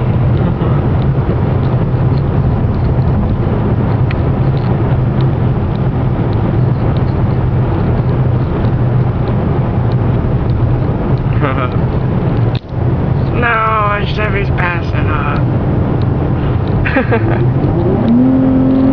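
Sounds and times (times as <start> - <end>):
car interior engine drone: 0.0 - 18.9.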